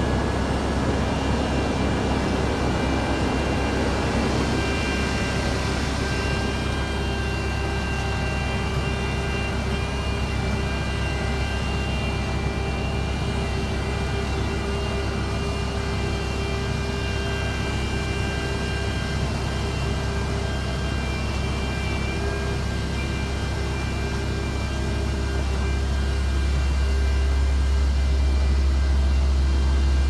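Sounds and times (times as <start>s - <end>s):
low diesel engine drone: 0.0s - 30.0s
machinery whining tones: 0.0s - 30.0s.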